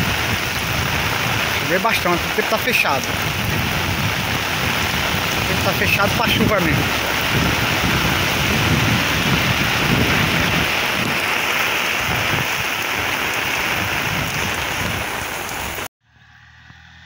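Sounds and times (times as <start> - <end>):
heavy rain pouring: 0.0 - 15.9
raindrops hitting an umbrella: 0.0 - 15.9.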